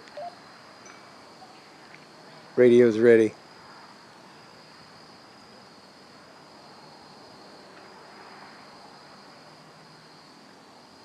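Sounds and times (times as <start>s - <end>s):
crickets trilling: 0.0s - 11.0s
faint hiss: 0.0s - 11.0s.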